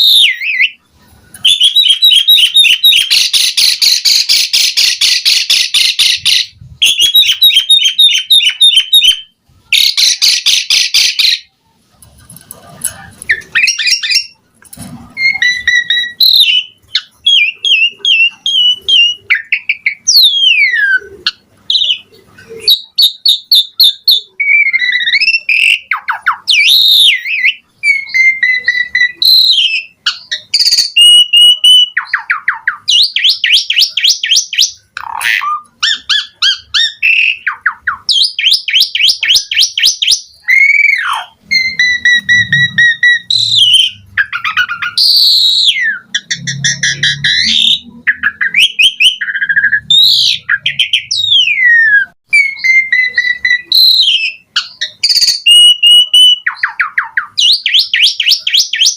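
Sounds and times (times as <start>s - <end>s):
starling singing: 0.0s - 58.9s.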